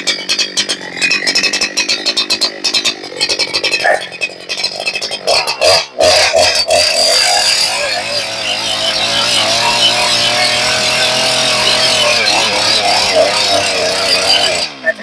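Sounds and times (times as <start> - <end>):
chainsaw cutting through wood: 0.0 - 15.0.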